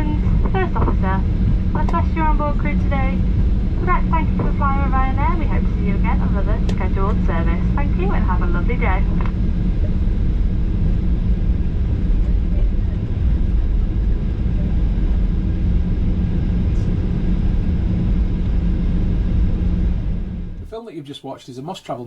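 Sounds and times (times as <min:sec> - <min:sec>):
aircraft engines rumbling in cabin: 0:00.0 - 0:20.6.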